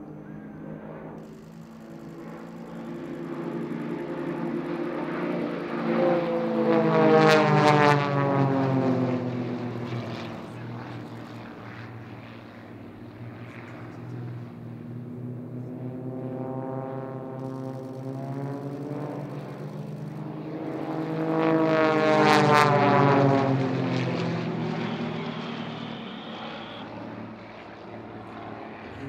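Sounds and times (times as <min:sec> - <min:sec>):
model plane propeller engines: 0:00.0 - 0:29.0.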